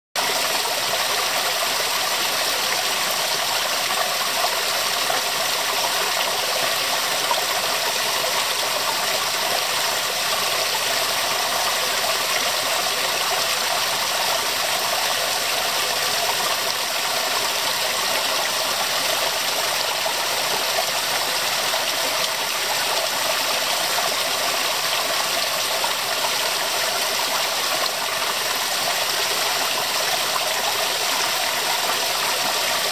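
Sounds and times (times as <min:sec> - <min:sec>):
waterfall splashing over rocks: 0:00.2 - 0:32.9.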